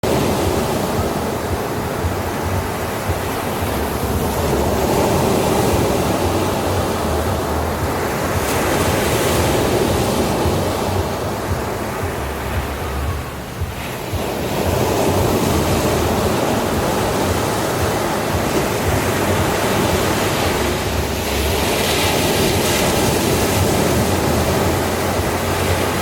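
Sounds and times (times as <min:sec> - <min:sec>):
ocean waves breaking on shore: 0:00.0 - 0:26.0.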